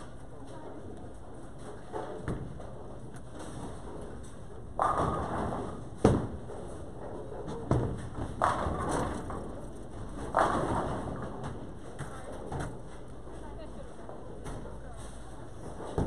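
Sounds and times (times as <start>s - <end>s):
bowling balls thudding on lanes: 1.5s - 13.5s, 14.1s - 16.0s.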